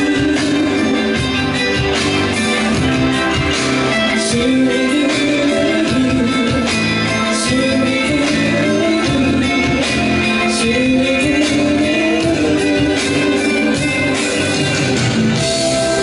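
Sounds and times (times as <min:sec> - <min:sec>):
woman singing into a microphone: 0:00.0 - 0:01.7, 0:04.1 - 0:16.0
pop backing track: 0:00.0 - 0:16.0.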